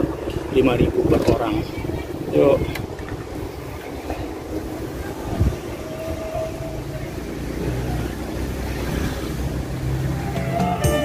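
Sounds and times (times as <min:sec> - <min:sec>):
road noise inside car: 0:00.0 - 0:11.0.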